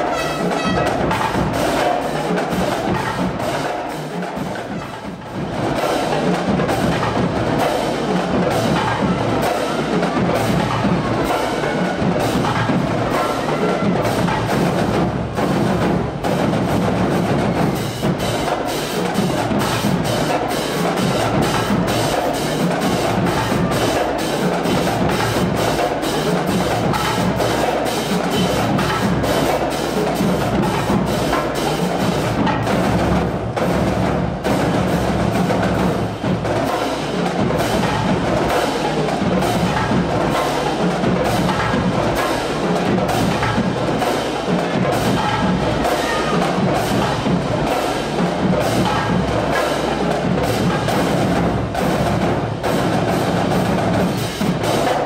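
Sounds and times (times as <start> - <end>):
drumline percussion music: 0.0 - 55.0.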